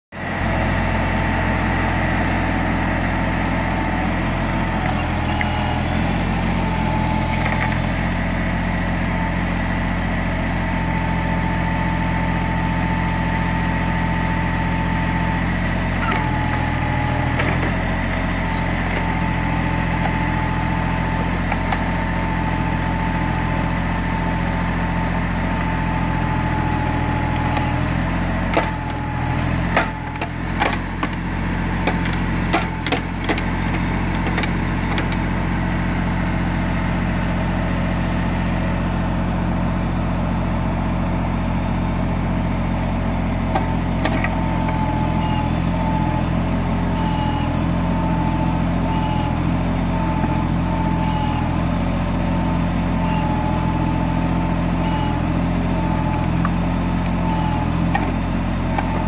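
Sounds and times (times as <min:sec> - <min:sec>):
tractor engine running: 0:00.1 - 0:59.0.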